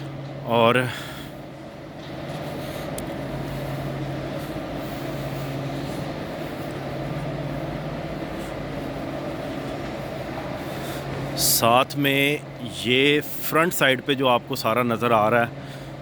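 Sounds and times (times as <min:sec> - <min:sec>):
engines and traffic drone: 0:00.0 - 0:16.0
low even hum: 0:00.0 - 0:16.0.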